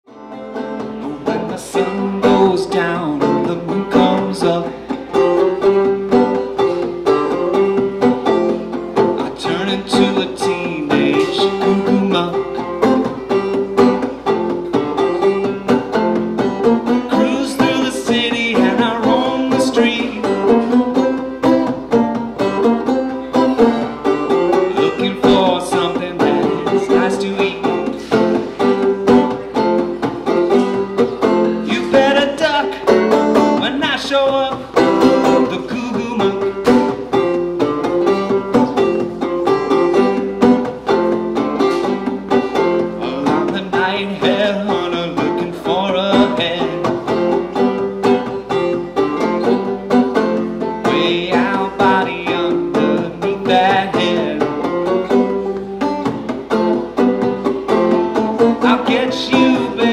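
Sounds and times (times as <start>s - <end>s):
clawhammer banjo playing: 0.1s - 59.9s.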